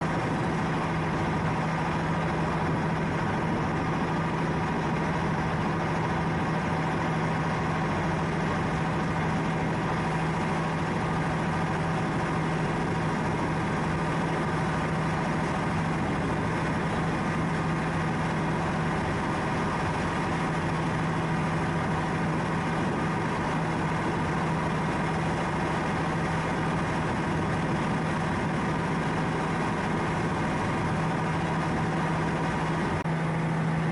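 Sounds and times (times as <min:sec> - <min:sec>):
ship engine humming: 0:00.0 - 0:33.9.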